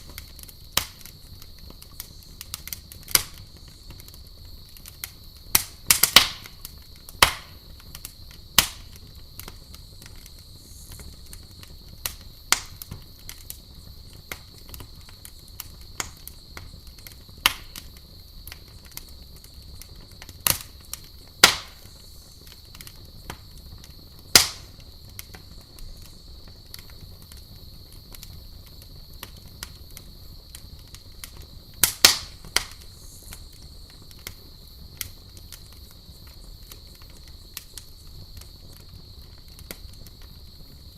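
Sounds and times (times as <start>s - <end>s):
campfire crackling and popping: 0.0s - 40.9s
low steady hiss: 0.0s - 40.9s.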